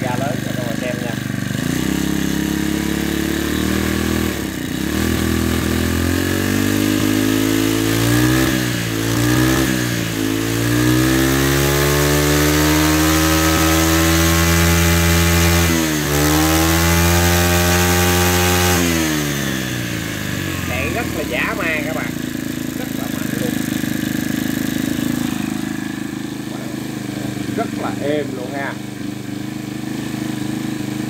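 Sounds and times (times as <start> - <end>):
brush cutter engine at high throttle: 0.0 - 31.0.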